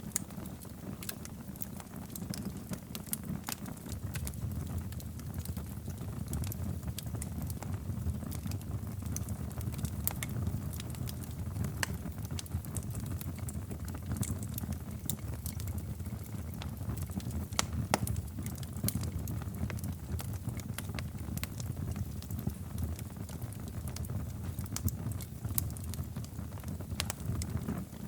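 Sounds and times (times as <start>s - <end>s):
fireplace fire crackling: 0.0s - 28.0s.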